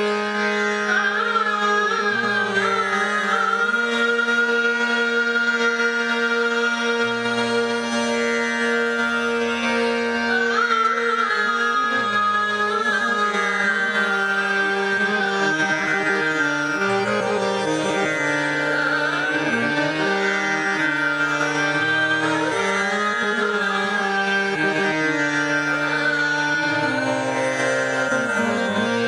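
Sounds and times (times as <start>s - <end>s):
harmonium: 0.0s - 29.0s
tanpura drone: 0.0s - 29.0s
woman singing classical vocal: 0.6s - 8.2s, 10.2s - 29.0s.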